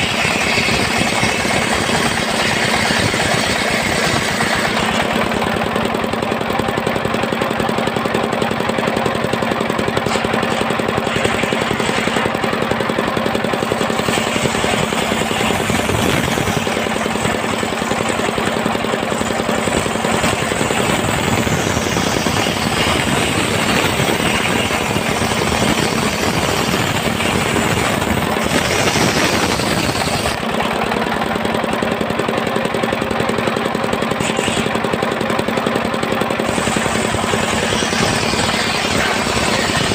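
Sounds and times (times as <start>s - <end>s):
saw blade cutting log: 0.0s - 39.9s
sawmill engine pulsing: 0.0s - 39.9s.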